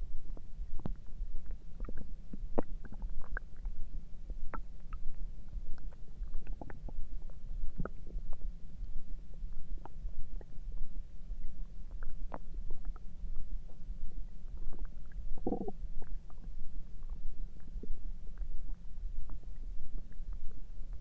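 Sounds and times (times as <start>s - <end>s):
stomach gurgling: 0.3s - 8.5s, 9.1s - 21.0s.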